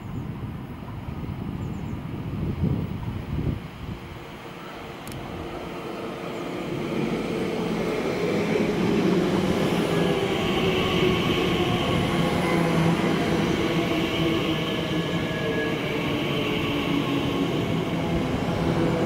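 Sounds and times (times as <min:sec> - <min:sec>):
electric train rumbling and whining: 0:00.3 - 0:19.0.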